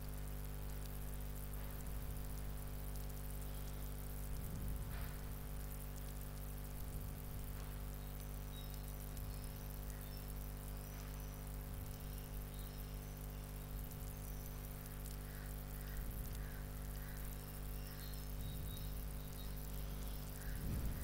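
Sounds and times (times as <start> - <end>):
electrical hum and hiss: 0.0 - 21.0.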